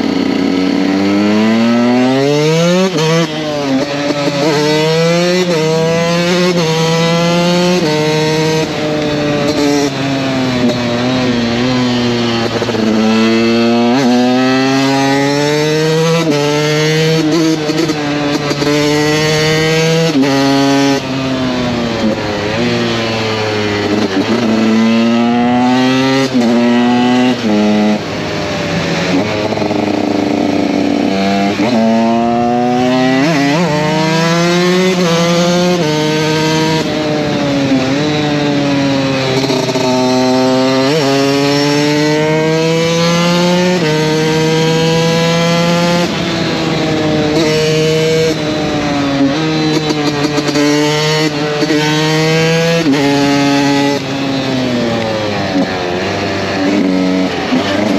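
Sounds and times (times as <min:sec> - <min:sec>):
motocross engine revving: 0:00.0 - 0:57.9.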